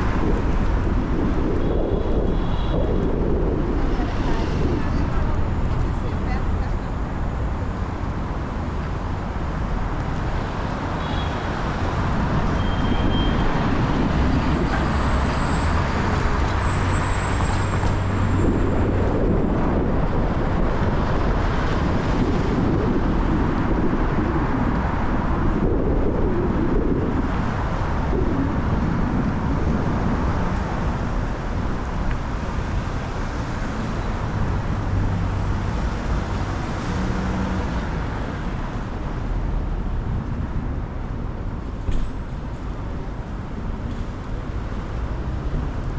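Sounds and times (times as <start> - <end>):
car road and tyre noise: 0.0 - 45.9.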